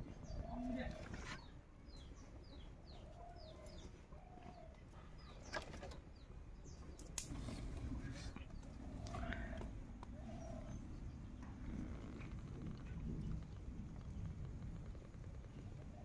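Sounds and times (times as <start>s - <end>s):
birds chirping: 0.0s - 16.0s
low bird calls: 0.0s - 16.0s.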